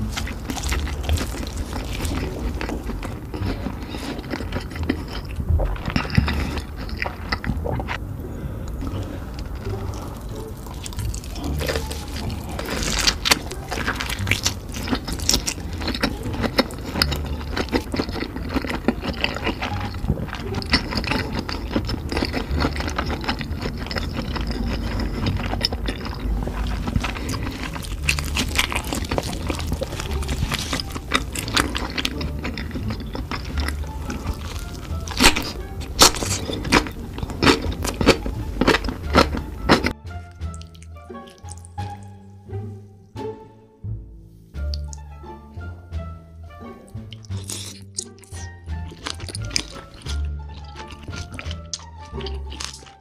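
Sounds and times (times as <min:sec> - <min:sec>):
wet chewing and slurping: 0:00.0 - 0:42.0, 0:46.8 - 0:53.0.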